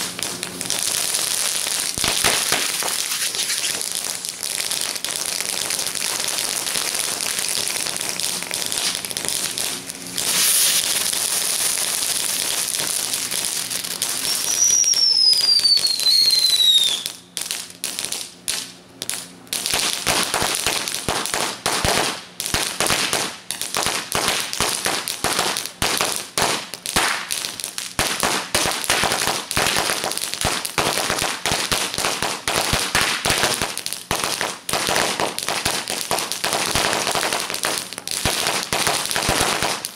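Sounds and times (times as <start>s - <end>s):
whistling firework: 0.0s - 23.3s, 26.9s - 39.9s
firecrackers popping: 0.0s - 39.9s
spark fountains crackling and hissing: 0.0s - 39.9s.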